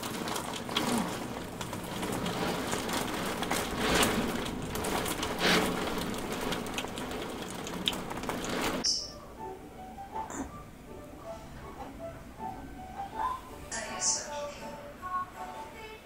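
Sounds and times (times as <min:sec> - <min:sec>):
rain on a window: 0:00.0 - 0:15.9.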